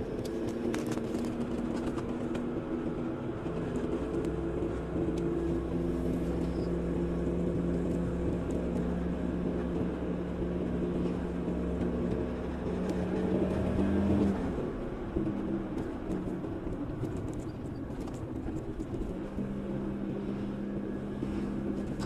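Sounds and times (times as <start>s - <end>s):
car engine hum: 0.0s - 22.0s.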